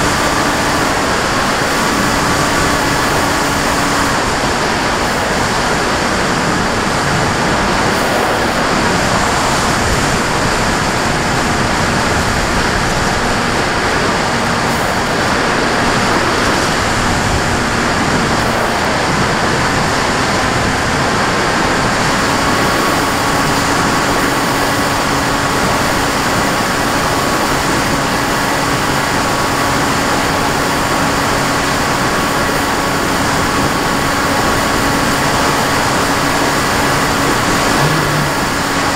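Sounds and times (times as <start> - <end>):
aircraft motor and propellers: 0.0 - 38.9
rush of wind: 0.0 - 38.9.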